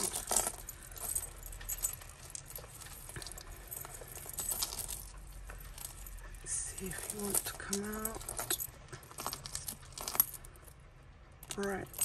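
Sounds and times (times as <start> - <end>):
metal jewellery clinking: 0.0 - 12.0.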